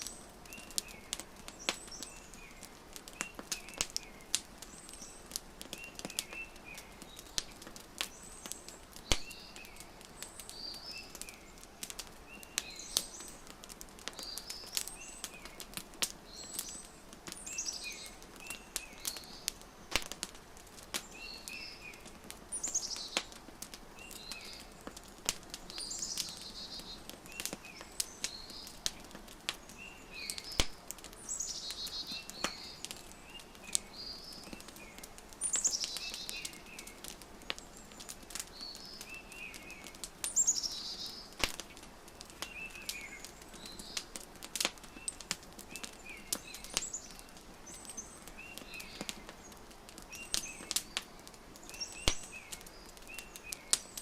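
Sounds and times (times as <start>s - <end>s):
songbird chirping and trilling: 0.0s - 13.4s, 14.1s - 20.0s, 21.0s - 44.1s, 44.8s - 54.0s
wood fire crackling and popping: 0.0s - 54.0s.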